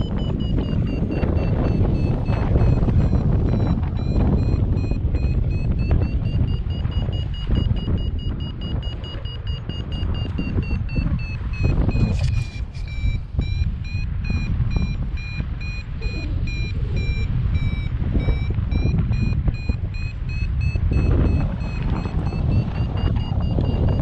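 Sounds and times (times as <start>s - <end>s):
variometer beeping rapidly: 0.0s - 24.0s
wind buffeting microphone: 0.0s - 24.0s.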